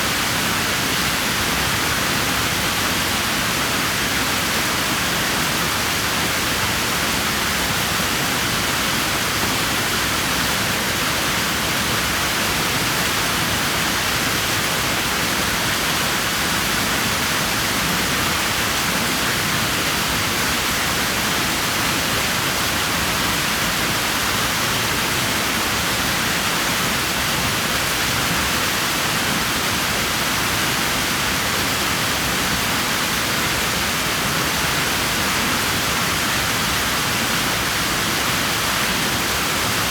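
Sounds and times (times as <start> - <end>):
pool water rushing: 0.0 - 39.9.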